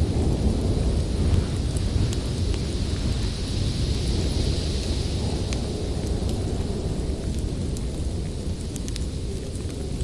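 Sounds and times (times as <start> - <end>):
storm wind rumbling: 0.0 - 10.0
wood fire crackling: 0.0 - 10.0.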